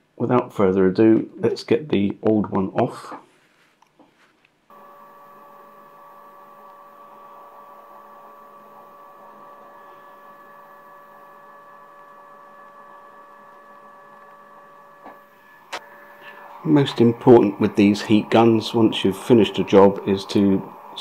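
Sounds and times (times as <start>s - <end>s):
fan whine: 4.2s - 21.0s.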